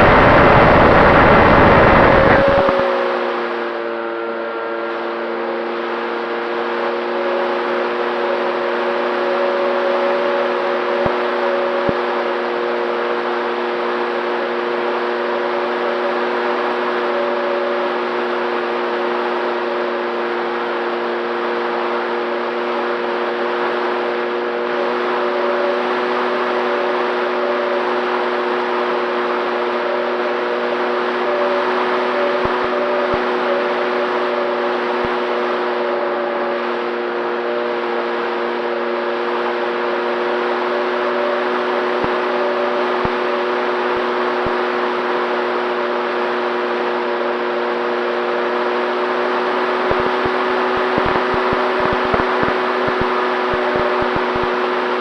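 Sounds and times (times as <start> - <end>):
electric motor and propeller whine: 0.0 - 55.0.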